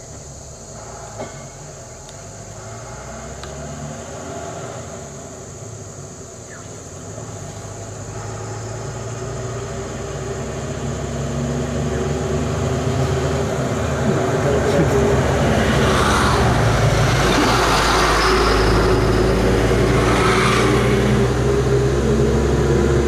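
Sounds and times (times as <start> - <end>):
truck diesel engine droning: 0.0 - 23.0.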